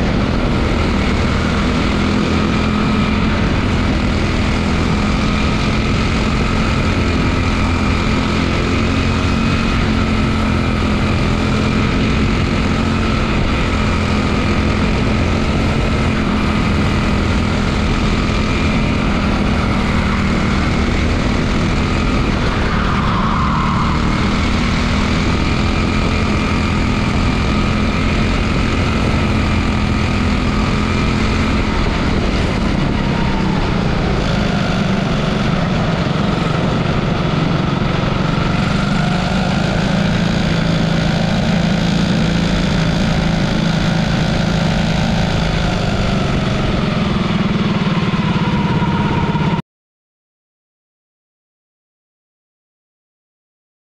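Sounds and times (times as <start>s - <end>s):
race car engine running: 0.0s - 49.6s.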